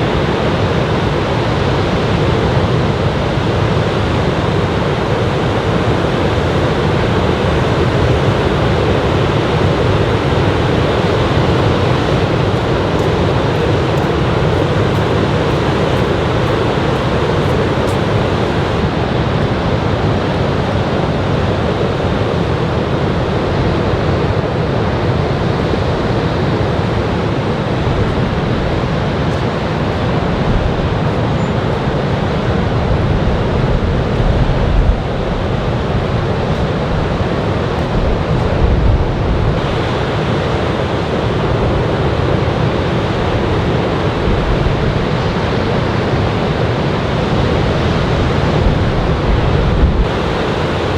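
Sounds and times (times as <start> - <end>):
ocean surf breaking: 0.0 - 50.9
wind buffeting microphone: 0.0 - 50.9.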